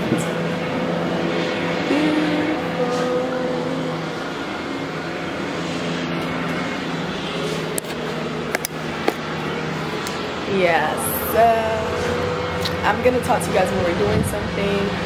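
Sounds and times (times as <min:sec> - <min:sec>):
low even hum: 0:00.0 - 0:15.0
steady outdoor rushing noise: 0:00.0 - 0:15.0.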